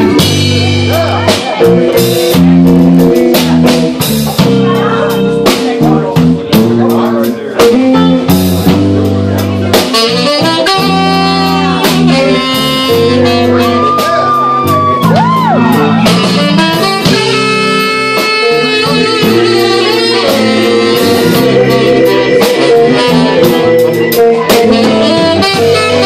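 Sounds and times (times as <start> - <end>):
saxophone solo: 0.0 - 6.9, 7.6 - 26.0
drums keeping time: 0.0 - 26.0
live blues band: 0.0 - 26.0.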